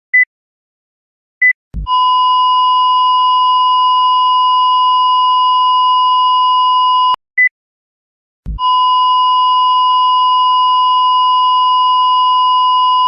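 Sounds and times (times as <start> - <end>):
heart monitor beep: 1.4 - 7.5, 8.5 - 13.0.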